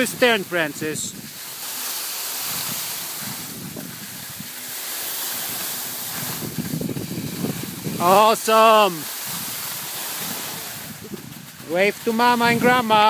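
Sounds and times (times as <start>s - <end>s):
wind rushing over microphone: 0.0s - 1.6s, 2.3s - 13.0s
skis hissing over snow: 0.0s - 13.0s.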